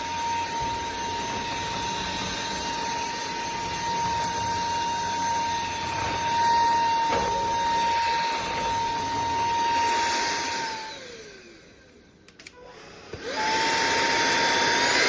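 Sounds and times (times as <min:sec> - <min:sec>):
stick vacuum running: 0:00.0 - 0:15.0.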